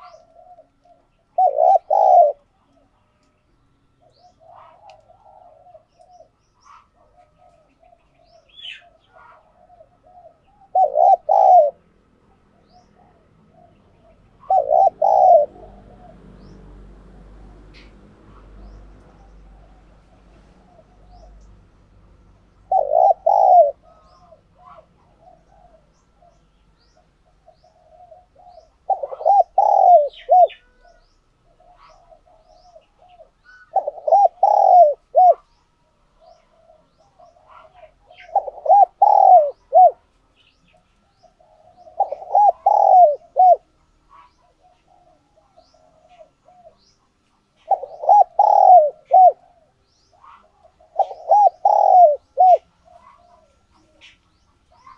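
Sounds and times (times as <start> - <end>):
dove cooing: 0.0 - 3.3, 4.0 - 16.8, 17.4 - 54.9.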